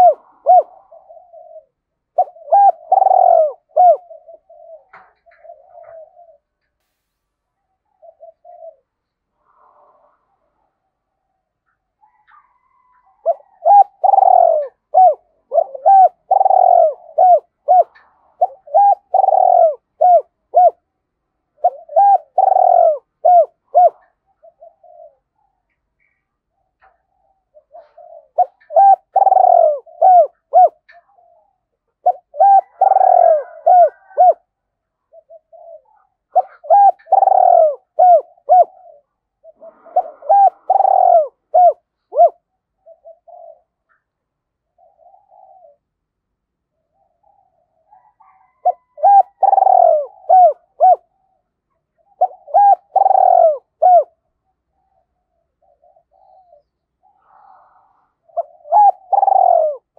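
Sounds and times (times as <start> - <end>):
dove cooing: 0.0 - 6.8, 7.6 - 46.1, 46.7 - 59.9.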